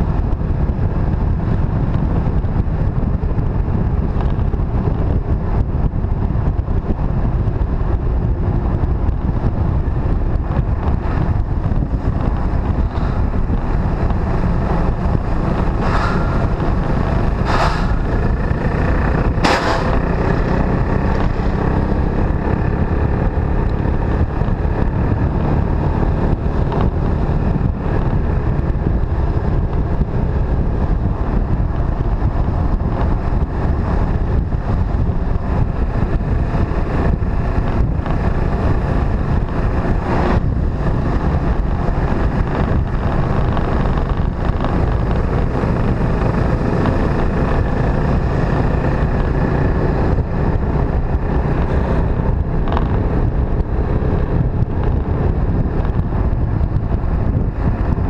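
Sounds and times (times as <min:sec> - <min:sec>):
motorcycle engine rumble: 0:00.0 - 0:58.0
wind buffeting microphone: 0:00.0 - 0:58.0.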